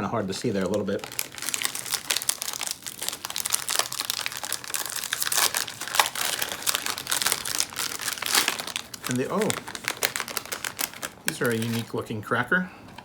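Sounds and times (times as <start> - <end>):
snack packet crinkling: 0.0 - 12.0.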